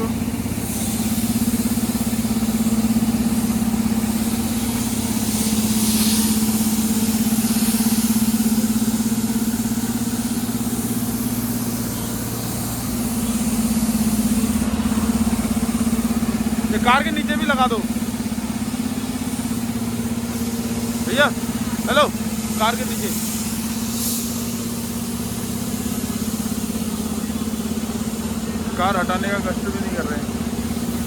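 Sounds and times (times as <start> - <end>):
small engine droning: 0.0 - 31.0.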